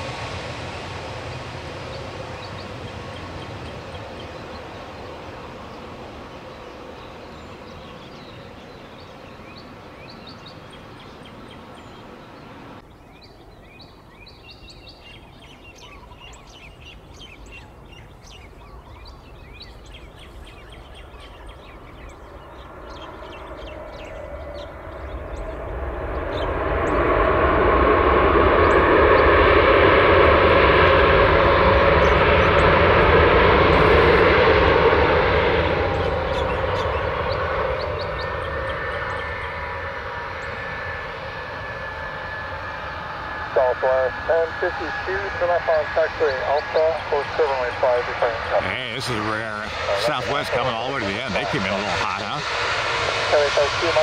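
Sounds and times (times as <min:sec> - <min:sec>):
jet engines roaring: 0:00.0 - 0:12.9, 0:18.5 - 0:54.0
distant engine hum: 0:00.0 - 0:54.0
birds chirping: 0:01.3 - 0:27.5, 0:28.5 - 0:54.0.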